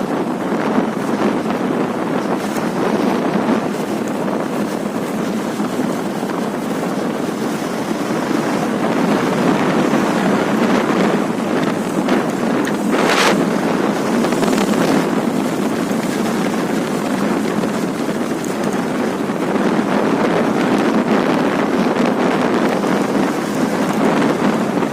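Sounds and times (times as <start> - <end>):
wind rushing over microphone: 0.0 - 24.9.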